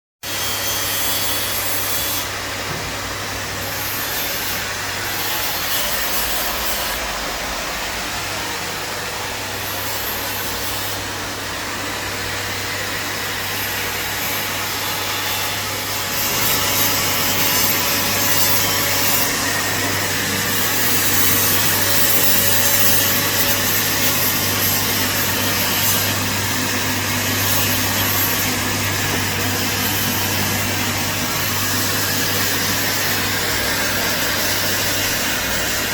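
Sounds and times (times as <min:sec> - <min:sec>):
electric welding arc hissing: 0:03.6 - 0:35.9.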